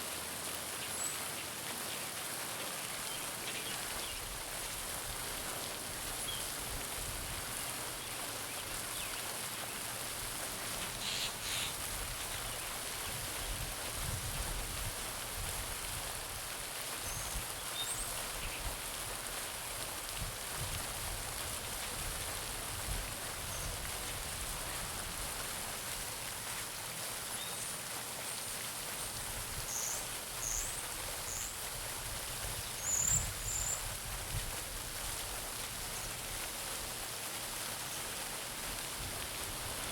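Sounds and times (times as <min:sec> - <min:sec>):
fountain splashing into water: 0:00.0 - 0:39.9.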